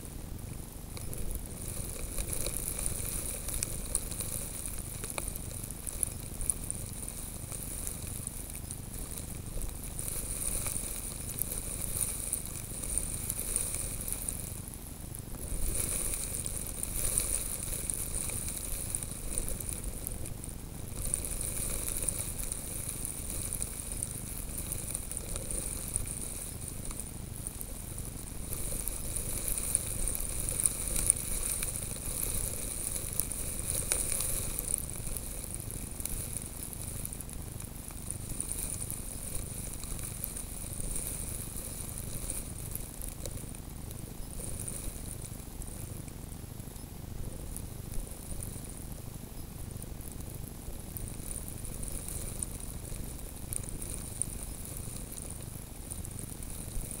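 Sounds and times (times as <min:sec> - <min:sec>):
snow grains pattering: 0:00.0 - 0:57.0
wind and blowing snow hiss: 0:00.0 - 0:57.0.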